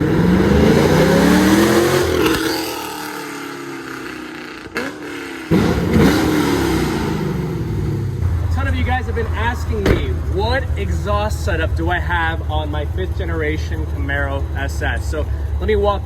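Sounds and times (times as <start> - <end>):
car engine revving: 0.0 - 15.8.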